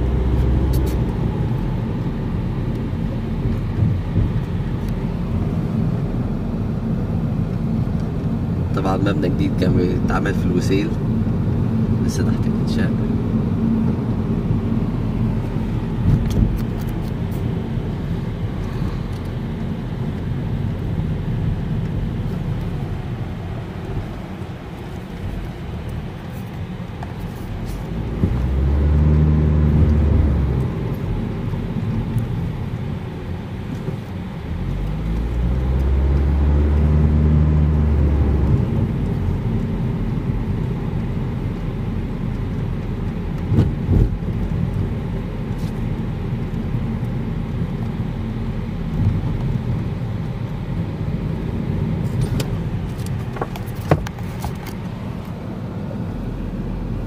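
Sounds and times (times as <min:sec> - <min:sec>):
car engine hum: 0:00.0 - 0:57.0
road noise: 0:00.0 - 0:57.0.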